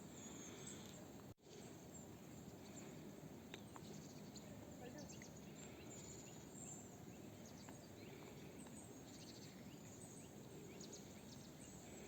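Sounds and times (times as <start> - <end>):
faint distant bird chirps: 0.0 - 12.0.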